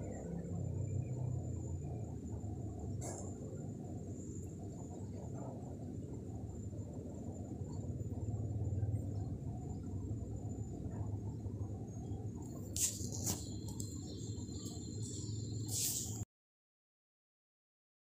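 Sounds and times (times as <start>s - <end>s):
low steady hum: 0.0s - 16.2s
high-pitched steady whine: 0.0s - 16.3s.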